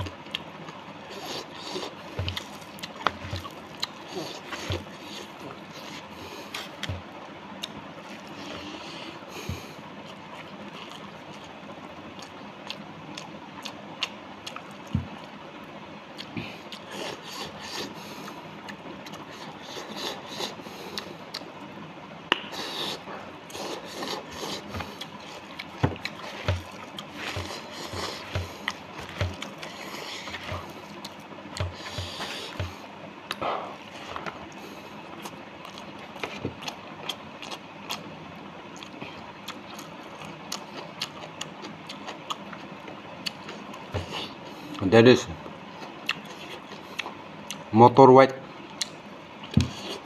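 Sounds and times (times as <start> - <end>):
man chewing and smacking lips: 0.0 - 47.7, 48.7 - 50.0.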